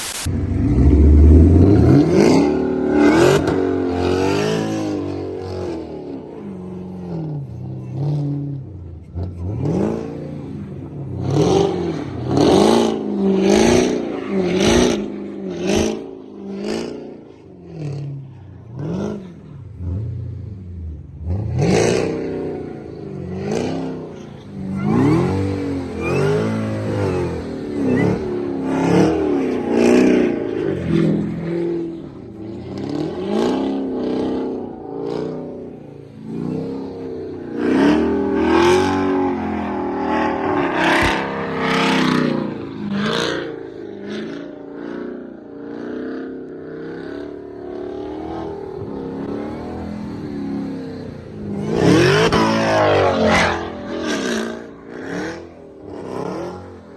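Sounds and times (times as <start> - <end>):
supercharged engine revving: 0.0 - 56.9.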